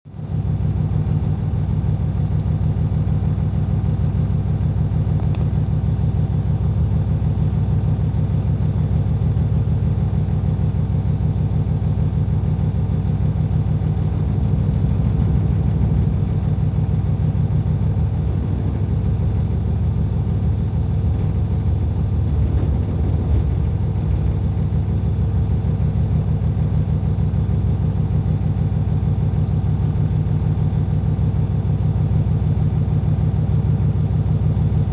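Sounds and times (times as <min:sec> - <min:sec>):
truck diesel engine rumbling: 0:00.1 - 0:34.9.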